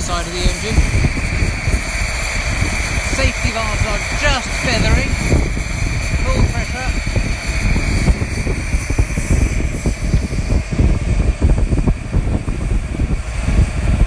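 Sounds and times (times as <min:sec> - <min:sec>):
low rumble: 0:00.0 - 0:14.0
steam hissing: 0:00.0 - 0:14.0.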